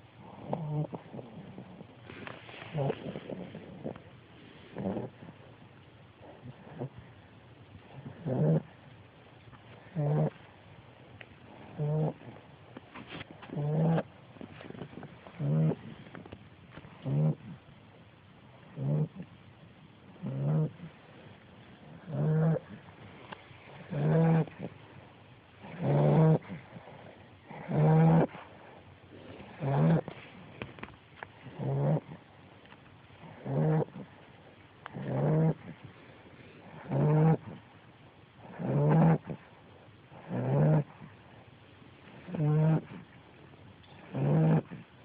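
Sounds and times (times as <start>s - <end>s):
puppy snoring: 0.0s - 45.0s.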